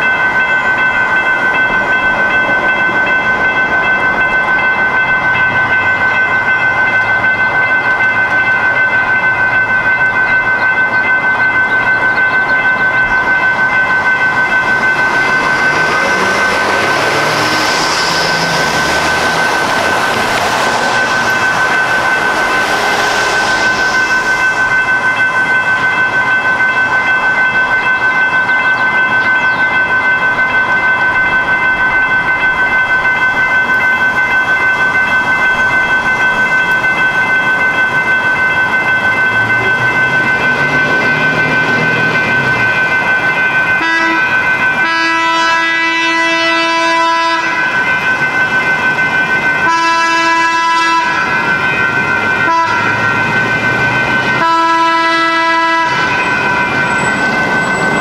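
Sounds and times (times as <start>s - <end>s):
railroad crossing bell ringing: 0.0s - 58.0s
train wheels on rails: 0.0s - 58.0s.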